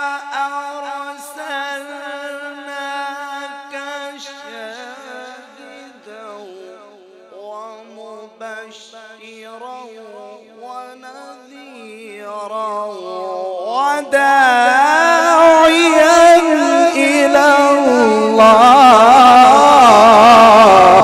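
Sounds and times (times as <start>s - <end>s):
man chanting melodically: 0.0s - 21.0s.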